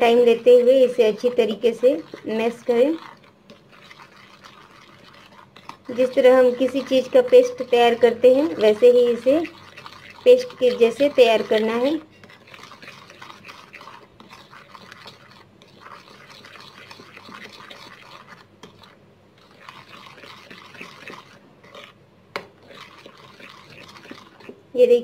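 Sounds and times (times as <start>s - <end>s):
spoon scraping a glass bowl: 0.2s - 22.0s, 22.6s - 24.6s.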